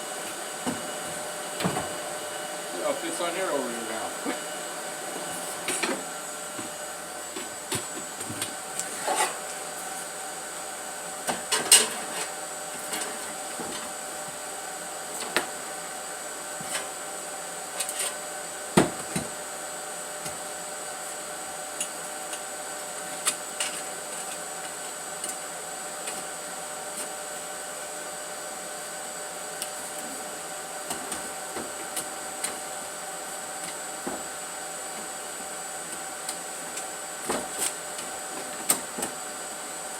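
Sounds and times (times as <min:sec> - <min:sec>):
machine hum with high whine: 0:00.0 - 0:39.9.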